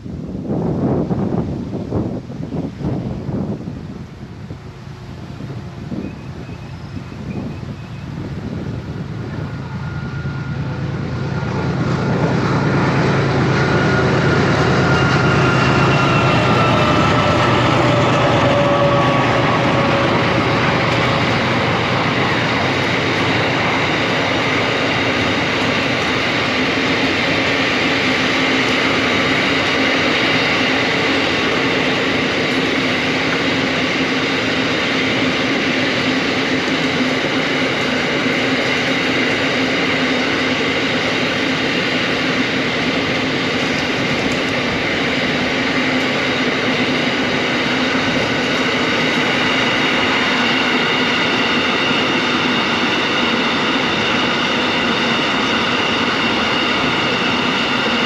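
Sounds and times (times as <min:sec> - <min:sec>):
locomotive engine drone: 0:00.0 - 0:58.0.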